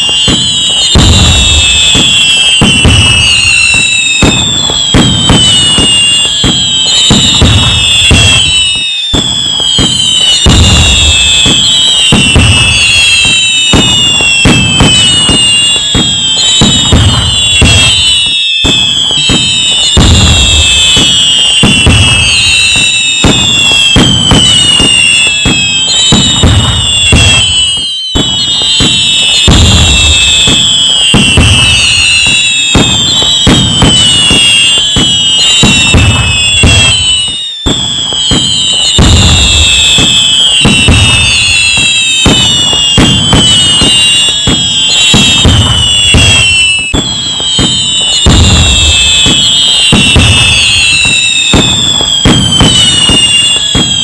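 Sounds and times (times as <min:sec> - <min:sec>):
firework bangs and crackling: 0:00.0 - 0:54.0
whistling firework shells: 0:00.0 - 0:54.0.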